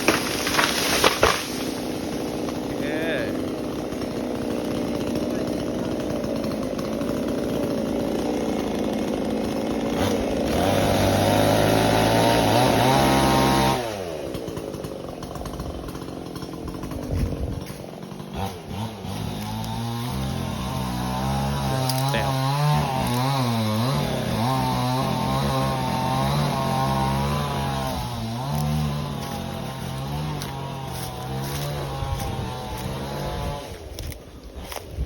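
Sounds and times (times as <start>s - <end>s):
chainsaw engine revving: 0.0s - 35.0s.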